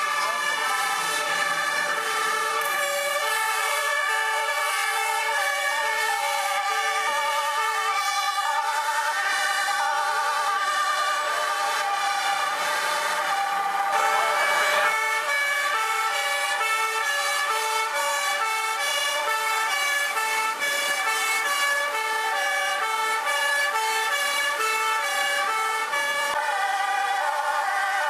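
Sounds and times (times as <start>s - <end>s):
two-tone fire engine sirens: 0.0s - 28.0s.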